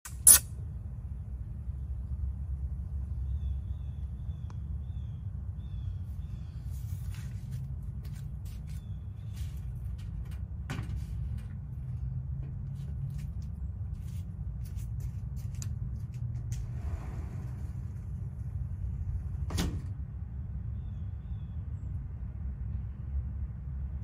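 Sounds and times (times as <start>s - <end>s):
steady low rumble: 0.4s - 24.0s.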